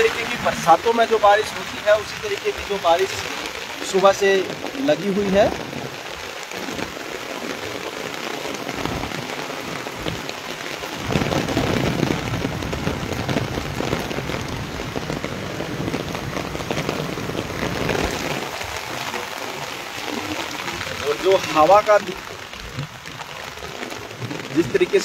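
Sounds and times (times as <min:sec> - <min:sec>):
heavy rain on roofs and street: 0:00.0 - 0:25.0.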